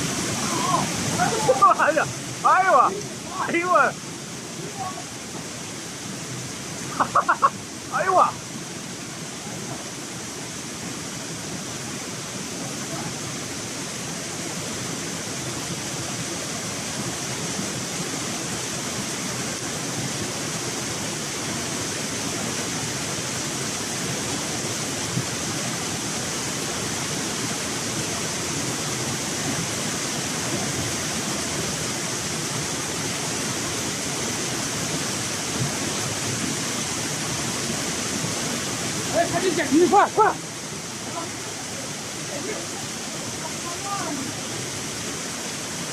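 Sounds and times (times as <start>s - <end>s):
heavy rain on water: 0.0s - 45.9s.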